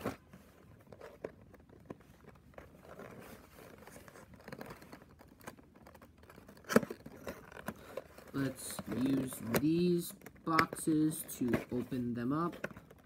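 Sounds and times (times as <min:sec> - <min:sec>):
cardboard boxes being handled: 0:00.0 - 0:13.0.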